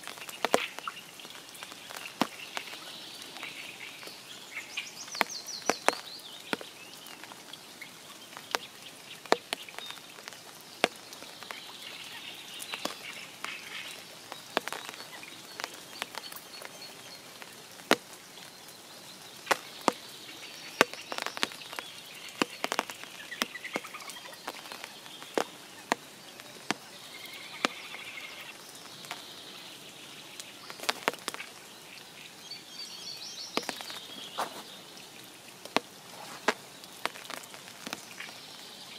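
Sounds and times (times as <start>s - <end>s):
faint steady hiss: 0.0s - 38.9s
raindrops tapping: 0.0s - 38.9s.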